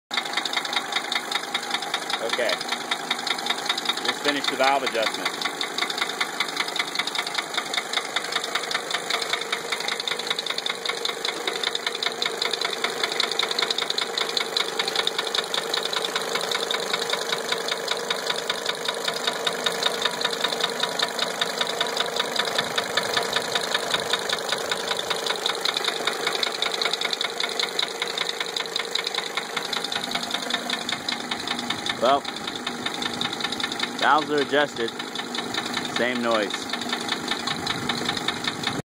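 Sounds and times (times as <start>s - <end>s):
diesel engine idling with knock: 0.1s - 38.8s.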